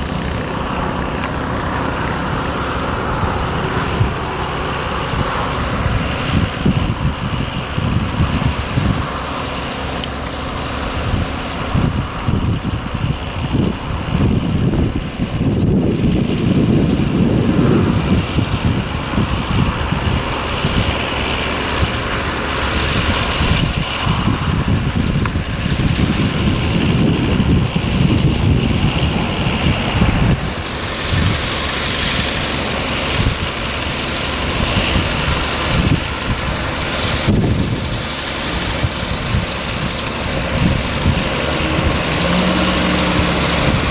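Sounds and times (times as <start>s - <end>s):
gusty low rumble: 0.0s - 43.9s
tractor engine running: 0.0s - 43.9s.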